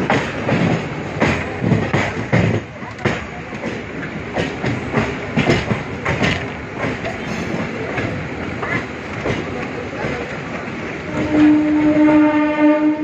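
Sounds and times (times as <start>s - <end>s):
train wheels clattering over rail joints: 0.0s - 12.1s.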